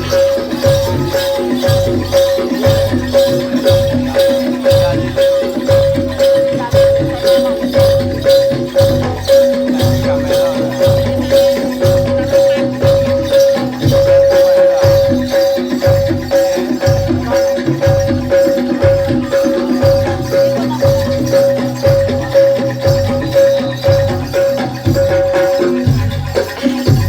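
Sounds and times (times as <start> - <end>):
drums beating driving rhythm: 0.0 - 27.0
jingling percussion: 0.0 - 27.0
ringing metallophone note: 0.0 - 27.0.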